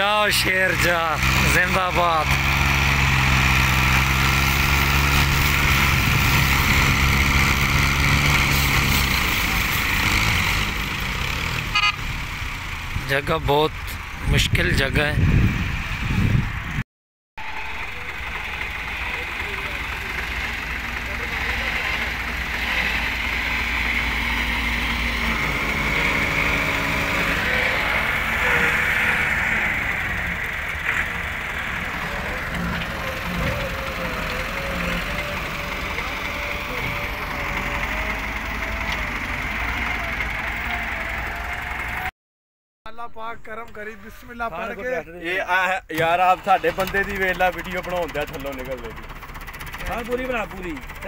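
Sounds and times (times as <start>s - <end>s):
tractors straining under heavy load: 0.0s - 16.8s, 17.4s - 42.1s, 43.1s - 51.0s.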